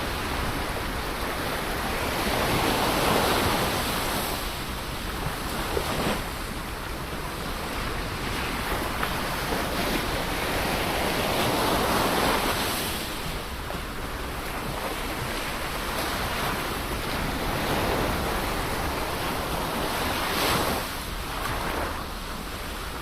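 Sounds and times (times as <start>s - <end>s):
ocean waves surging on shore: 0.0s - 23.0s.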